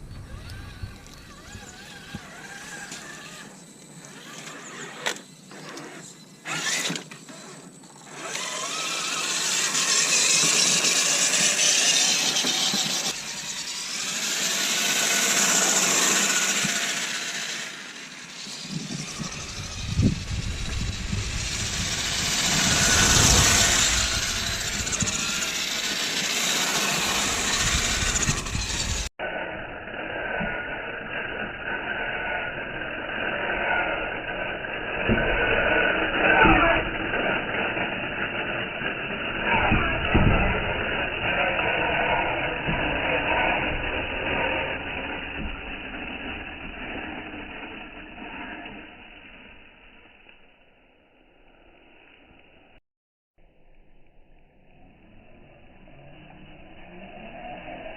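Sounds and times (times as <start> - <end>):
electric drivetrain whirring: 0.0 - 52.6, 53.6 - 57.9.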